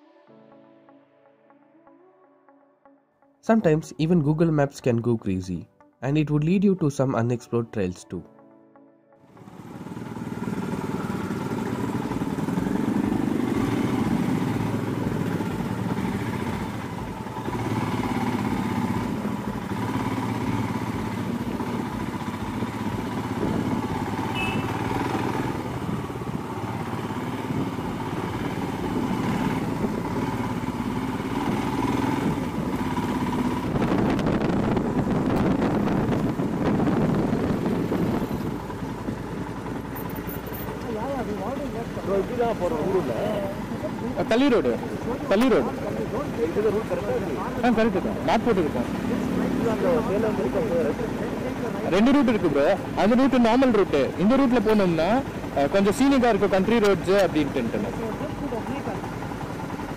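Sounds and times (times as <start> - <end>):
motorcycle engine running: 9.3 - 59.9.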